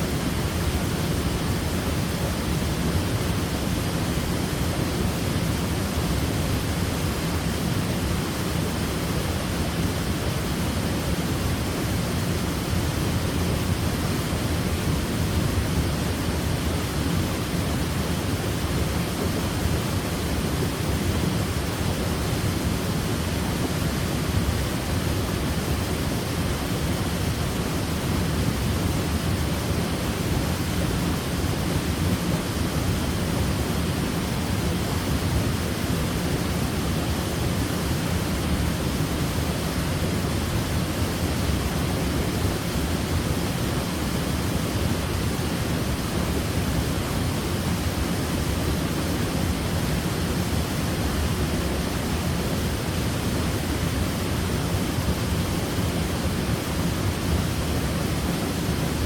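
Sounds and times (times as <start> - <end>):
waterfall roar: 0.0 - 59.0.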